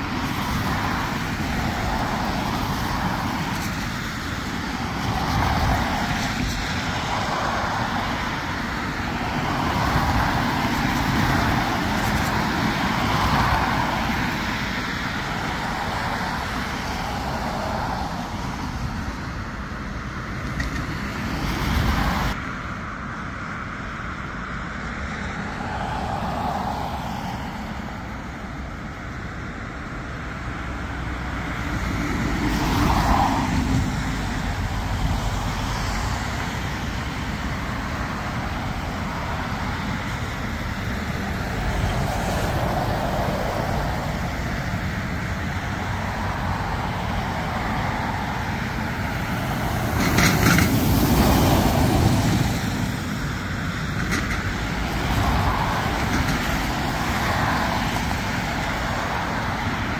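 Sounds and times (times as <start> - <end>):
engine and traffic rumble: 0.0 - 59.9.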